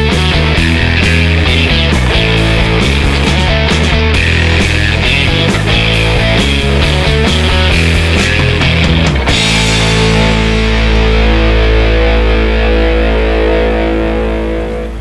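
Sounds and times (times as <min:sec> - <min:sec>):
distorted electric guitar rock music: 0:00.0 - 0:15.0.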